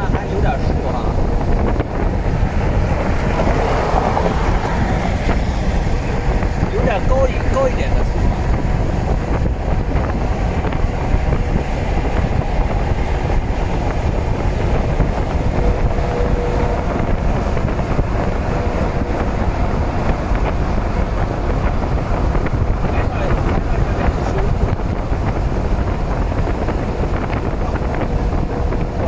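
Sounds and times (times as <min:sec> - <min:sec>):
freight train cars rumbling: 0:00.0 - 0:29.0
wind buffeting microphone: 0:00.0 - 0:29.0.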